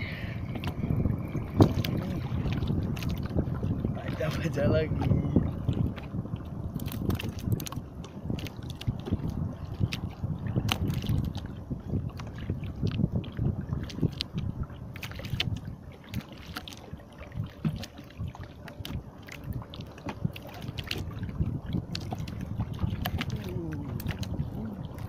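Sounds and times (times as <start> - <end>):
water lapping against boat hull: 0.0 - 25.0
wind on microphone: 0.0 - 25.0.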